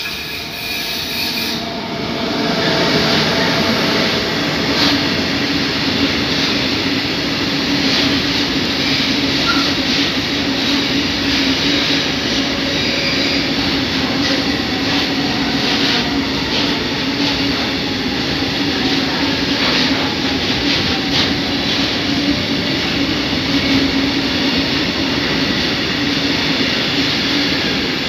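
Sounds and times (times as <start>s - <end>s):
freight train rumbling past: 0.0s - 28.0s
wheels clacking on rail: 2.6s - 28.0s.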